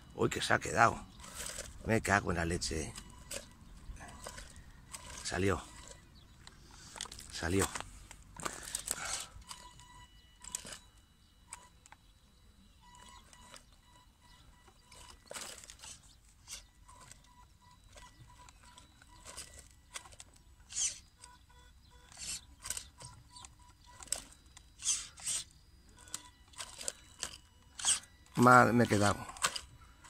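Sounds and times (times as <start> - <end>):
electric motor whine: 0.0 - 30.0
tyres crunching on gravel: 0.2 - 9.8, 13.0 - 30.0.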